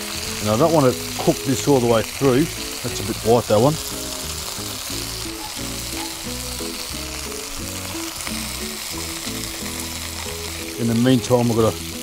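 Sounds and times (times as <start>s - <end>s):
background music: 0.0s - 12.0s
fish sizzling in hot oil: 0.0s - 12.0s.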